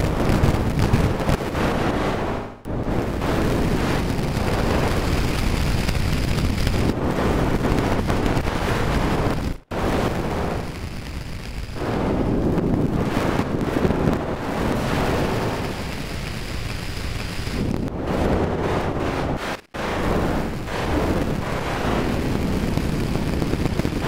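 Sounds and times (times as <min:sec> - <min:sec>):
dense rushing rumble: 0:00.0 - 0:24.0.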